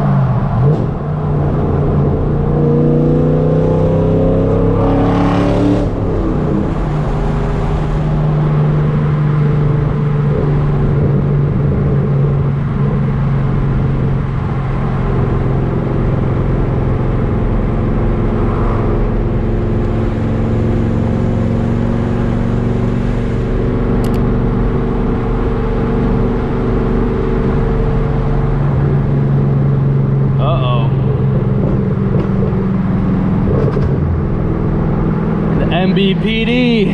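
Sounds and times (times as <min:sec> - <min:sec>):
loud car exhaust drone: 0:00.0 - 0:36.9.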